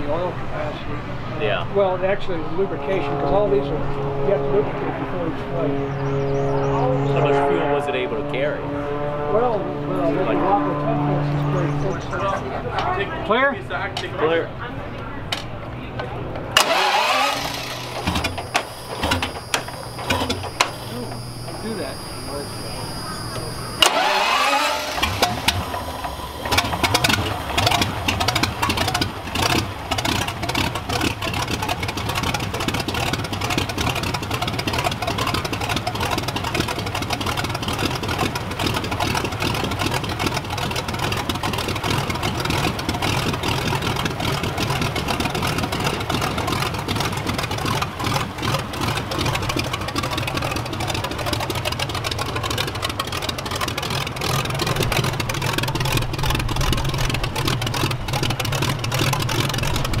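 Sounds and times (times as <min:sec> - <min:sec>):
aircraft engine running: 0:00.0 - 1:00.0.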